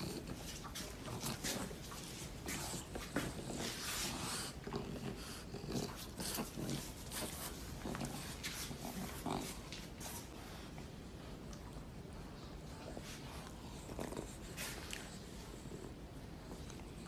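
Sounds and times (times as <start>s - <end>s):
puppy breathing and snuffling: 0.0s - 17.0s.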